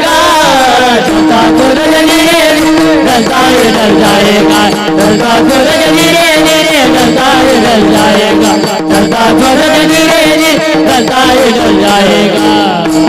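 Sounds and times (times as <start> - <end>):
devotional melody with ornaments: 0.0 - 13.0.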